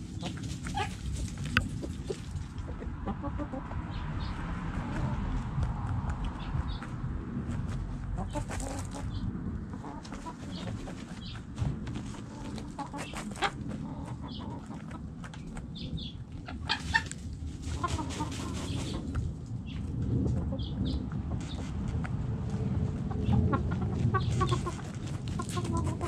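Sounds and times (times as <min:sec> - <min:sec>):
hens clucking softly: 0:00.0 - 0:26.0
scratching in dry dirt: 0:00.0 - 0:26.0.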